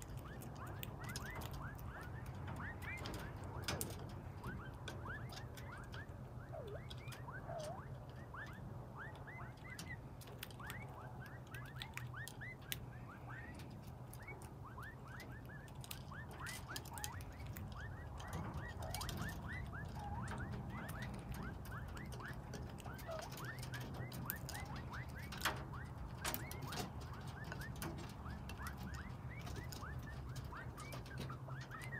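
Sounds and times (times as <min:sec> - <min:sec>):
beaks pecking seed: 0:00.0 - 0:31.9
quail peeping: 0:00.0 - 0:31.9.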